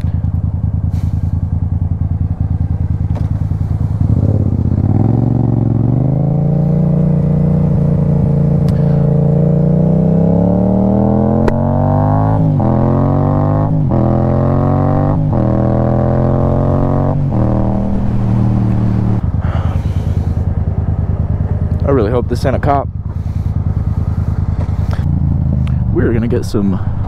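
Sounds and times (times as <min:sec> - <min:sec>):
motorcycle engine idling and accelerating: 0:00.0 - 0:27.0.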